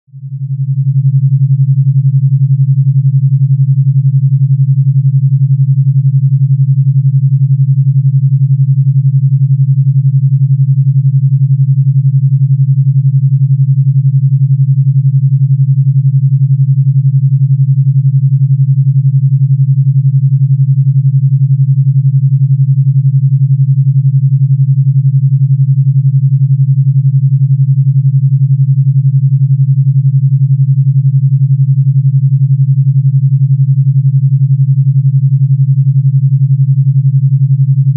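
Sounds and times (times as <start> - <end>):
pulsing low electronic tone: 0.1 - 37.9.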